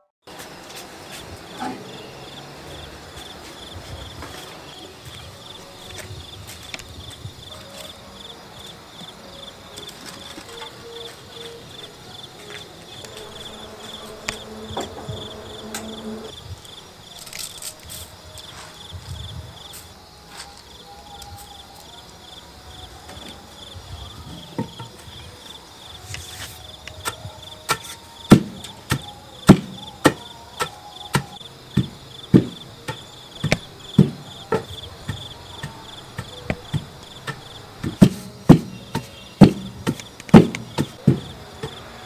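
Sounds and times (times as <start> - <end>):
cricket chirping: 0.3 - 42.0.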